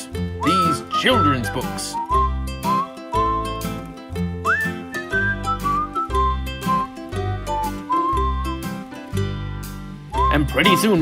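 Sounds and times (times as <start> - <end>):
upbeat whistled music: 0.0 - 11.0.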